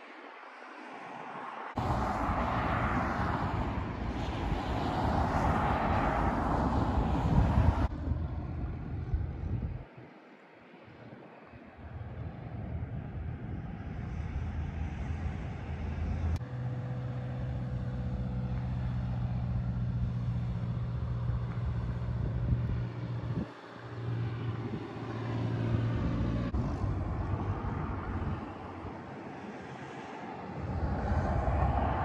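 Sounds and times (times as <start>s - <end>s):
airplane engines rumbling: 0.0s - 32.0s.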